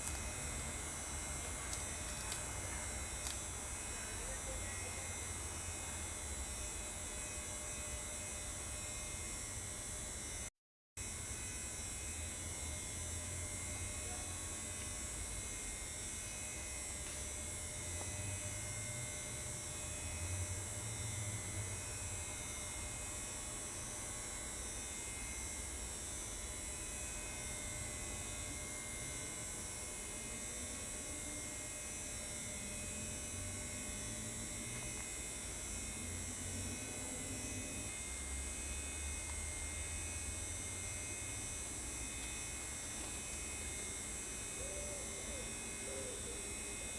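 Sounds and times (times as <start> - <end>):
electrical hum and hiss: 0.0 - 46.9.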